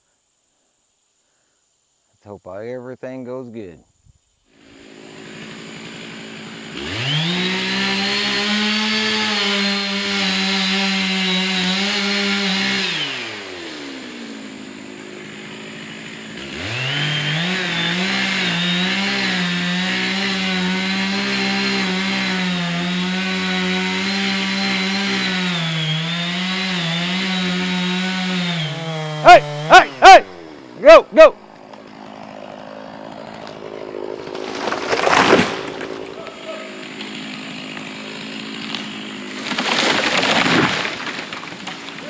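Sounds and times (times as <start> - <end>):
chainsaw revving and cutting: 4.5 - 42.0.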